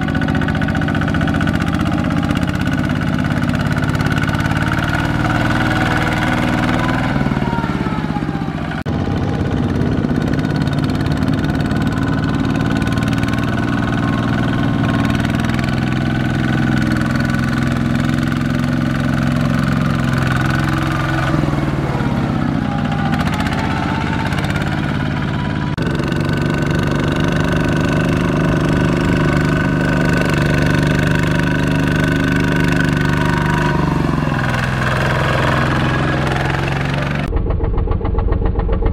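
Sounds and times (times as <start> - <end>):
diesel tractor engine under load: 0.0 - 38.9.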